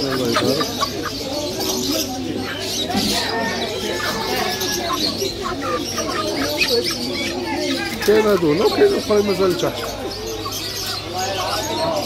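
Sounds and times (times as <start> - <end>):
birds chirping and cooing: 0.0 - 12.0
faint background voices: 0.0 - 12.0.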